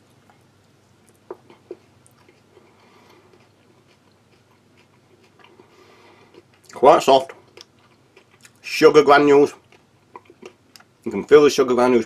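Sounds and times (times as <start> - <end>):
chewing: 0.1 - 8.6, 9.5 - 10.9.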